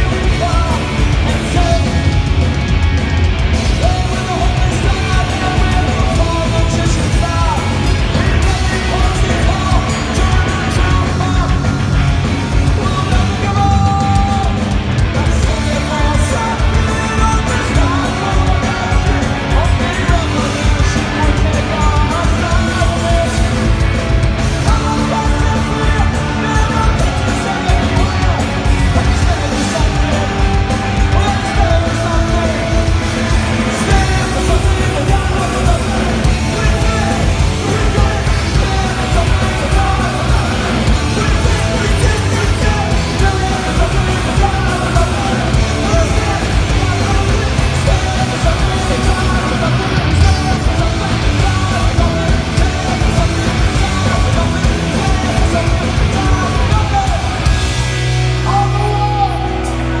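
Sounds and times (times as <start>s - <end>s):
bass: 0.0s - 60.0s
drums: 0.0s - 60.0s
electric guitar: 0.0s - 60.0s
punk rock band playing live: 0.0s - 60.0s
shouted vocals: 3.5s - 60.0s.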